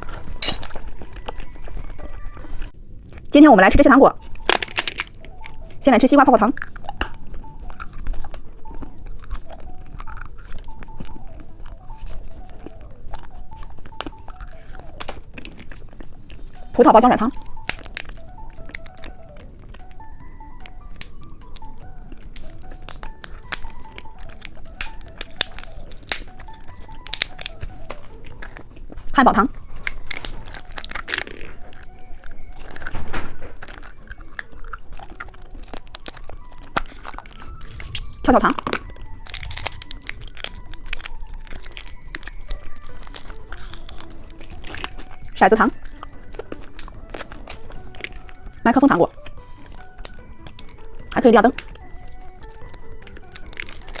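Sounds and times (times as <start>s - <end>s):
chewing bubble gum: 0.0s - 54.0s.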